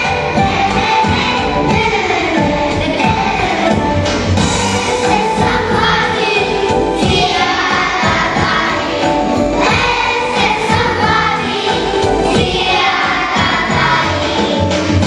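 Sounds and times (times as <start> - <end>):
children's choir singing: 0.0 - 15.0
instrumental accompaniment with beat: 0.0 - 15.0.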